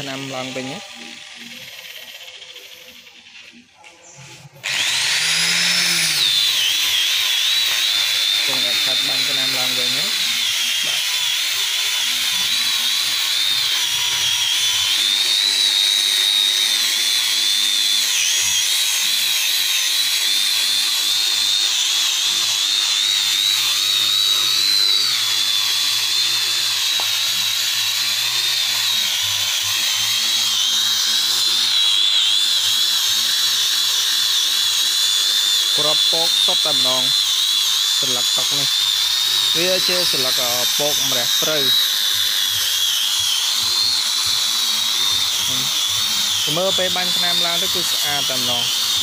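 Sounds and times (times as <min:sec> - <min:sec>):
orbital sander whining on wood: 0:00.0 - 0:49.0.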